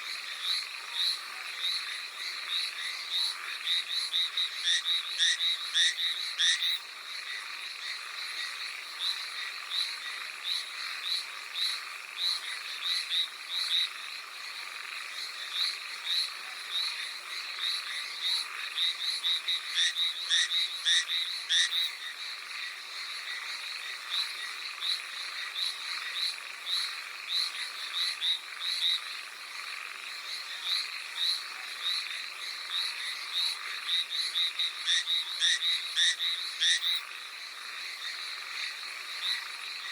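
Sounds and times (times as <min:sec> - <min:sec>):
tree frogs croaking: 0:00.0 - 0:39.9.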